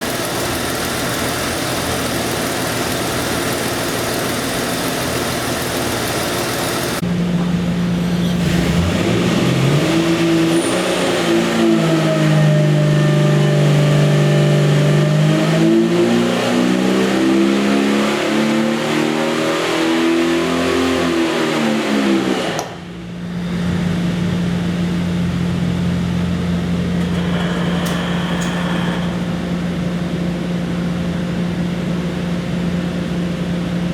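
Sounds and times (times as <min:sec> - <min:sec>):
engine idling and revving: 0:00.0 - 0:33.6.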